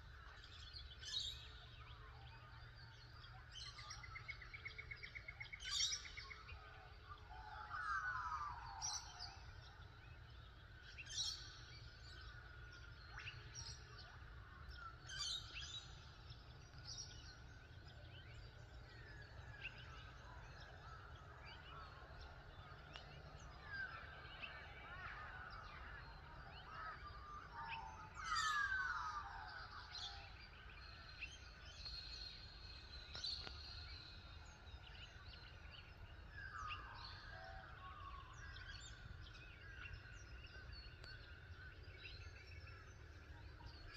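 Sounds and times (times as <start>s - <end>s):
birds calling and chirping: 0.1s - 43.9s.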